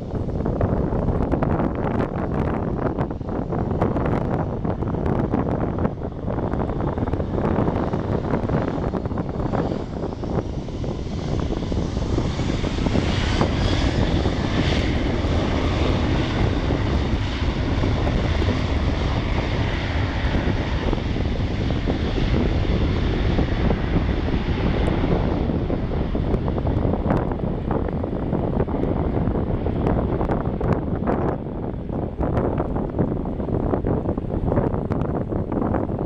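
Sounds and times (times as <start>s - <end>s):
airliner engines passing: 0.0s - 36.0s
wind buffeting microphone: 0.0s - 36.0s.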